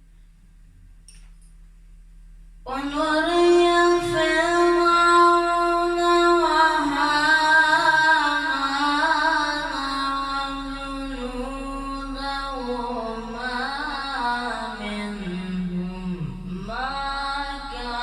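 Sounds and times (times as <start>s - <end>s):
man chanting unaccompanied: 2.7s - 18.0s.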